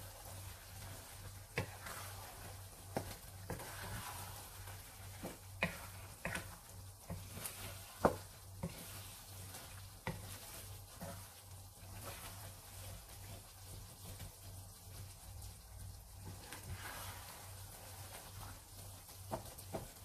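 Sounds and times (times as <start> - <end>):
light sizzle: 0.0 - 20.0
spatula scraping and tapping pan: 0.1 - 15.2, 16.2 - 20.0.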